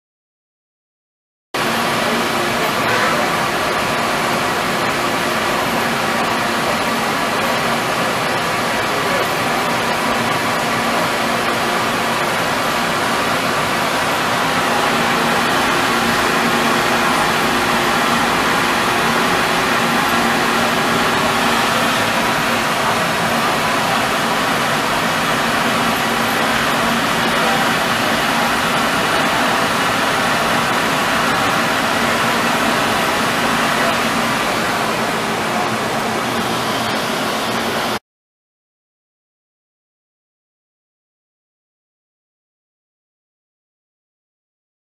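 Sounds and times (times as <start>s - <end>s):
drilling machine whirring: 1.6s - 38.0s.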